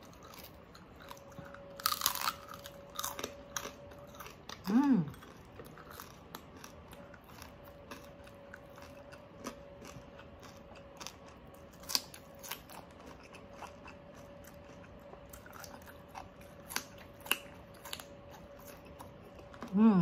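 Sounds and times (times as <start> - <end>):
crunching while chewing: 0.0 - 20.0.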